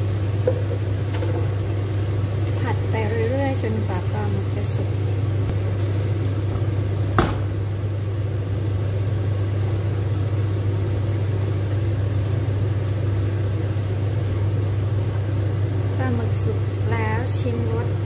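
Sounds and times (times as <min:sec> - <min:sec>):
food simmering and sizzling: 0:00.0 - 0:18.0
low electrical hum: 0:00.0 - 0:18.0.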